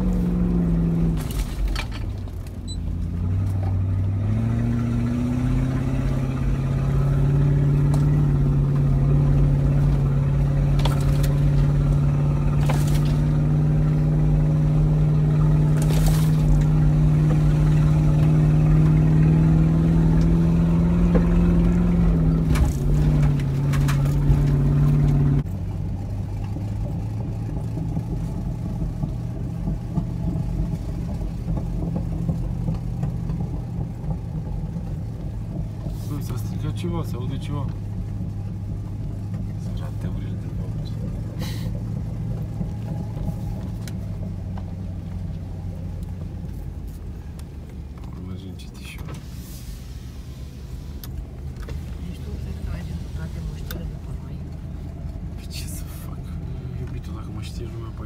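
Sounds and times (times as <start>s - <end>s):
engine pulling uphill: 0.0s - 58.0s.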